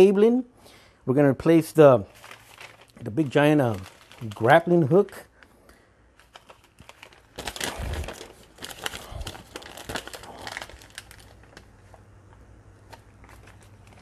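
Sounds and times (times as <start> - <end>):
plastic bag and paper crinkling: 1.9 - 14.0.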